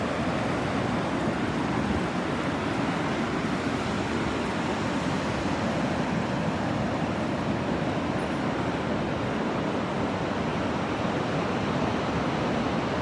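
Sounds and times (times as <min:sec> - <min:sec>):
sea surf: 0:00.0 - 0:13.0
wind on a beach: 0:00.0 - 0:13.0.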